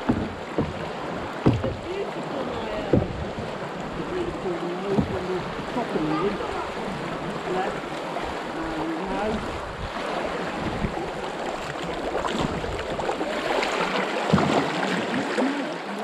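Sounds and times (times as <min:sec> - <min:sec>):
paddle stroke splashes: 0:00.0 - 0:16.0
river current rushing: 0:00.0 - 0:16.0.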